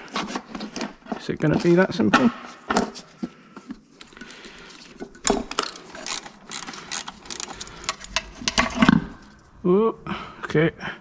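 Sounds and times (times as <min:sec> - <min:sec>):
tools clicking and knocking: 0:00.2 - 0:09.4.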